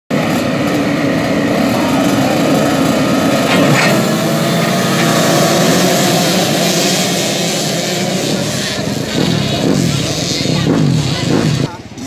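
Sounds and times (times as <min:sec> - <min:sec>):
dirt bike engines revving: 0:00.1 - 0:12.0.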